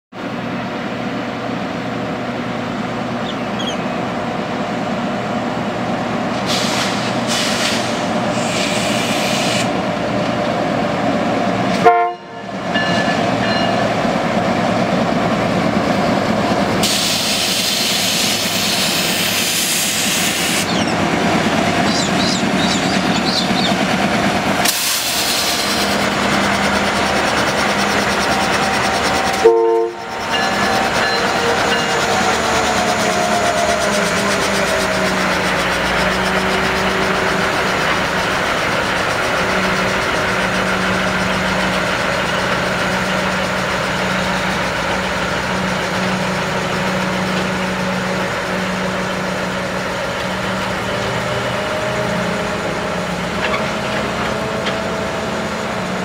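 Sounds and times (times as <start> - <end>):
diesel locomotive engines: 0.1 - 56.0
wagons rumbling on rails: 0.1 - 56.0.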